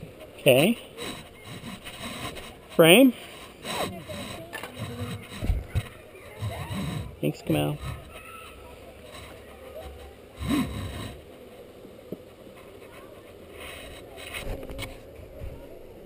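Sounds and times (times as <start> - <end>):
honeybees humming: 0.0 - 15.2
wooden hive parts handled: 0.1 - 15.2.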